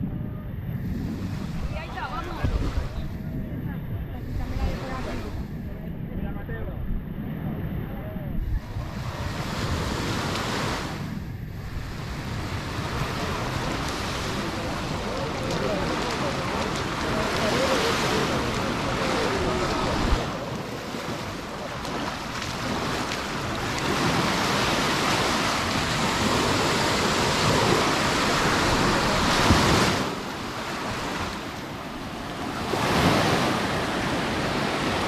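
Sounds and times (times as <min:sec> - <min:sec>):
sea waves washing onto beach: 0:00.0 - 0:35.0
wind on microphone: 0:00.0 - 0:35.0.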